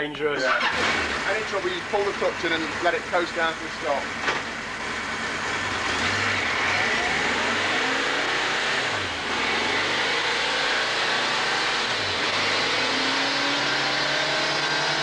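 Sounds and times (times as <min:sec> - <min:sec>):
motorcycle engine revving: 0:00.5 - 0:15.0.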